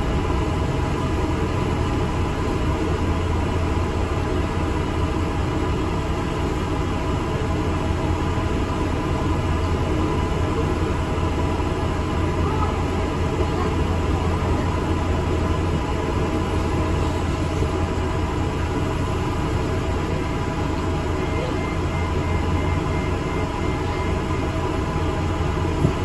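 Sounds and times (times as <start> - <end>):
bus engine drone: 0.0 - 26.0
road and body rumble: 0.0 - 26.0.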